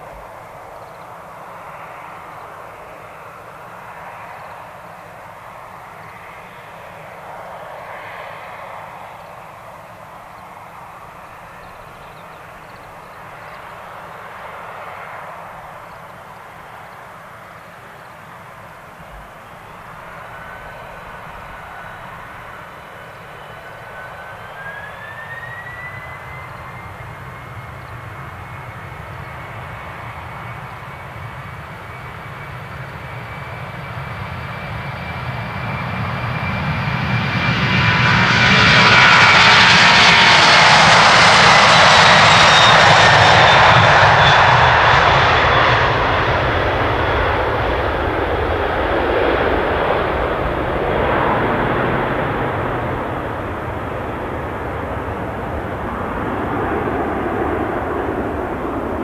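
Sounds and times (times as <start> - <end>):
jet engine whine climbing: 0.0 - 59.0
jet engines running: 0.0 - 59.0.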